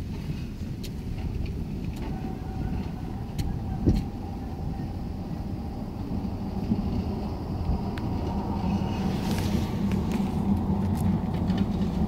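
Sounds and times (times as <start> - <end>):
tram approaching: 0.0 - 12.0.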